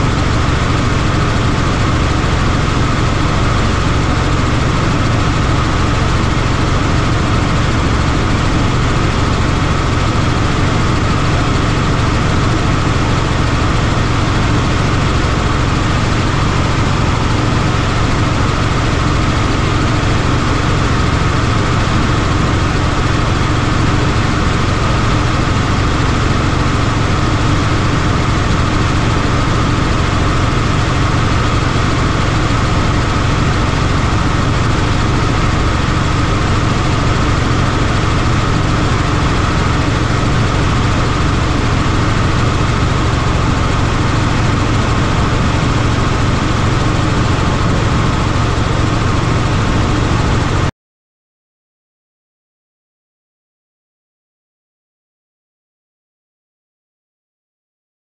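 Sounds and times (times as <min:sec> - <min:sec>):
helicopter engine and rotor: 0:00.0 - 0:50.7.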